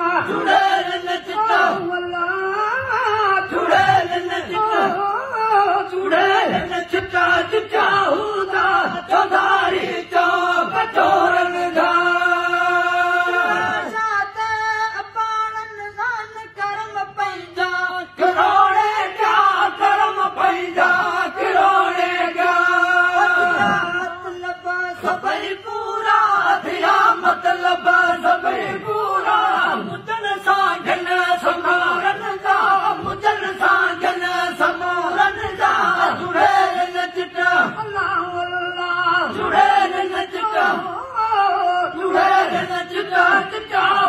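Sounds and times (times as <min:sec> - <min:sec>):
male voice singing into microphone: 0:00.0 - 0:44.0
men singing: 0:00.0 - 0:44.0.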